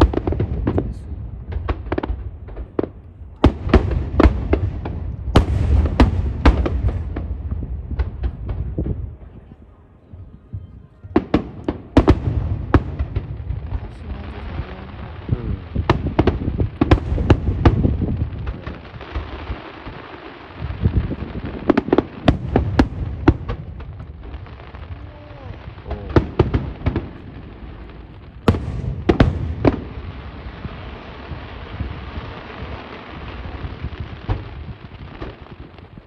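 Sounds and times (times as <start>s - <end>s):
fireworks bursting with sharp bangs: 0.0s - 36.0s
low rumble of booms: 0.0s - 36.0s.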